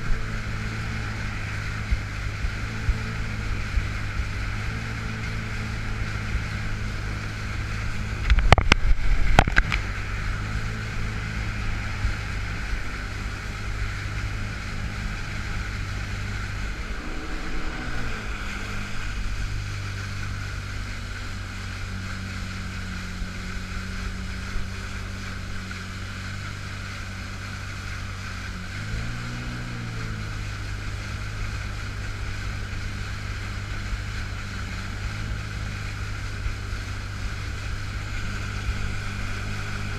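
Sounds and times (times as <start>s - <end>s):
watercraft engine running: 0.0s - 39.9s
wind and water hiss: 0.0s - 39.9s.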